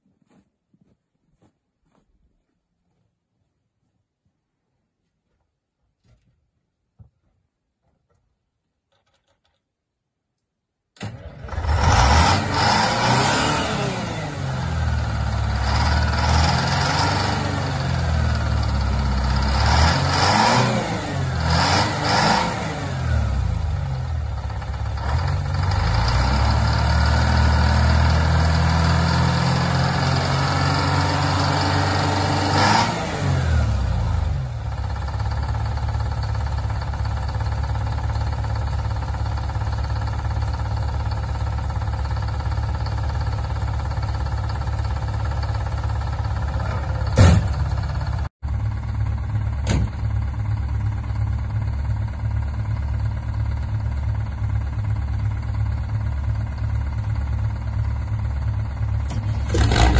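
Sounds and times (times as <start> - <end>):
truck engine revving and idling: 11.0 - 59.9.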